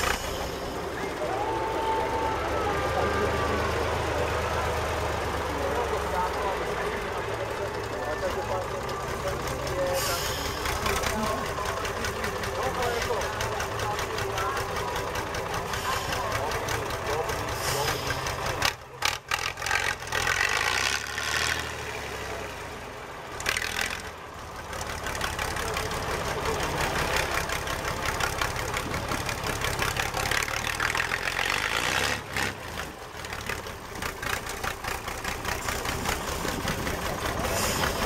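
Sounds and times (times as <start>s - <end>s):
diesel truck engine revving: 0.0s - 38.0s.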